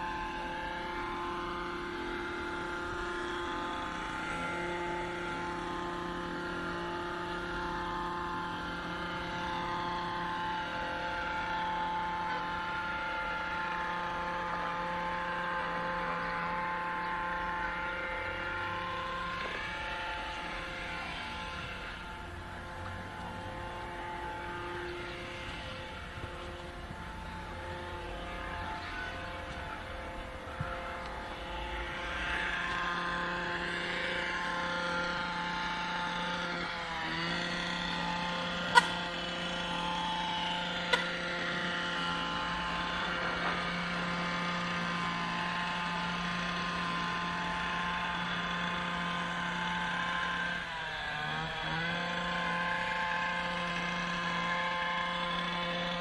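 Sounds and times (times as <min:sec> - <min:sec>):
mechanical hum of small motors: 0:00.0 - 0:56.0.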